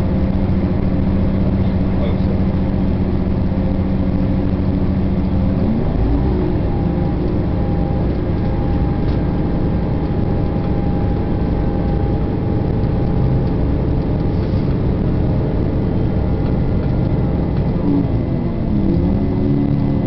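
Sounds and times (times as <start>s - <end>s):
train wheels rumbling on track: 0.0s - 19.0s
faint steady whine: 0.0s - 20.0s.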